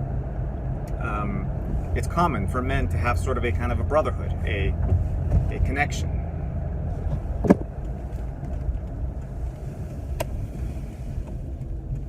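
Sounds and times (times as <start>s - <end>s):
car interior road and engine noise: 0.0s - 12.0s.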